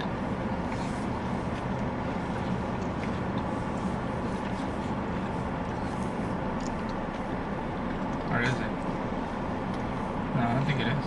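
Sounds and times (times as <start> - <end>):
car engine rumble in cabin: 0.0 - 11.0.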